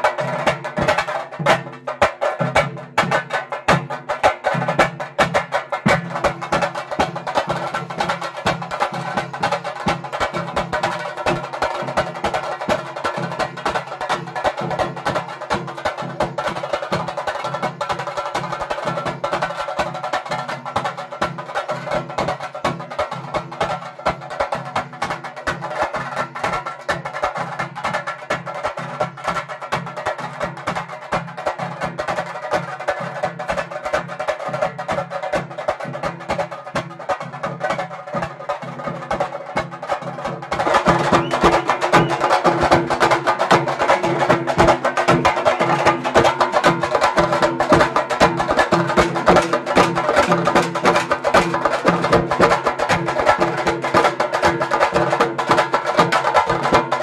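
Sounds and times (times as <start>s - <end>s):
drum ensemble played with sticks: 0.0s - 57.0s.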